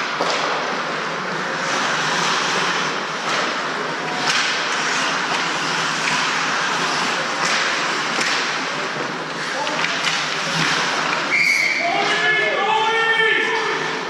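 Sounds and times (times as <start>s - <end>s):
hockey sticks and puck clicking: 0.0s - 14.0s
skates scraping ice: 0.0s - 14.0s.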